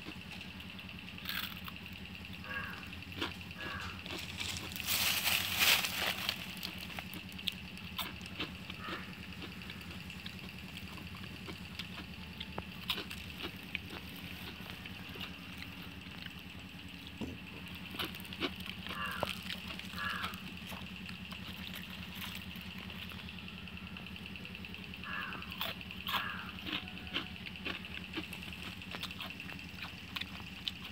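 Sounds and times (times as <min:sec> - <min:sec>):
crunching fried food: 0:00.0 - 0:30.9
steady low hum: 0:00.0 - 0:30.9.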